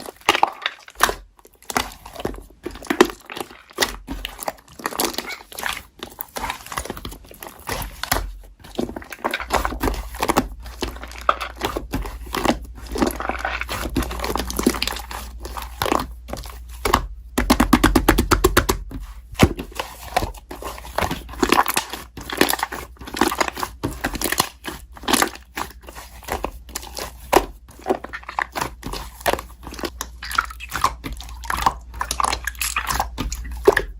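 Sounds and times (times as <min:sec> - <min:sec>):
slime being squished: 0:00.0 - 0:33.9.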